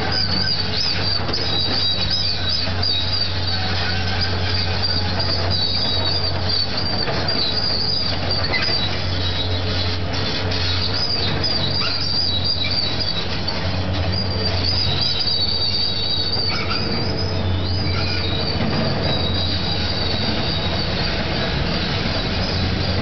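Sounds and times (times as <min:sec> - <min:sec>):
excavator diesel engine running: 0:00.0 - 0:23.0
high wavering squeal: 0:00.0 - 0:23.0.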